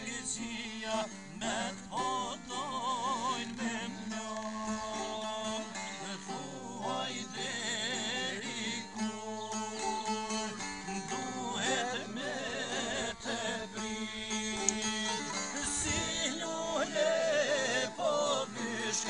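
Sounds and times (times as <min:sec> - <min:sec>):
man singing: 0:00.0 - 0:19.0
plucked lutes playing folk song: 0:00.0 - 0:19.0.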